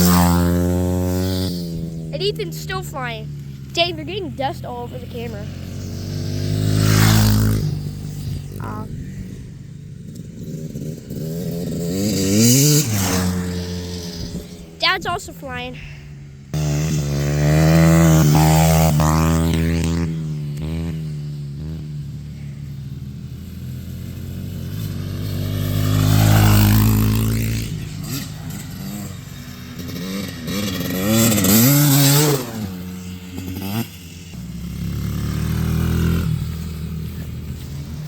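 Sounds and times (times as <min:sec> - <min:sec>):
dirt bikes revving and passing: 0:00.0 - 0:38.0.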